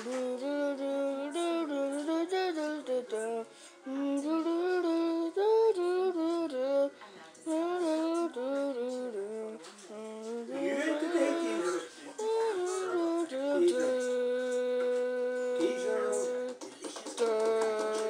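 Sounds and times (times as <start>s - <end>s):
high-pitched voice singing: 0.0s - 16.6s, 17.2s - 18.0s.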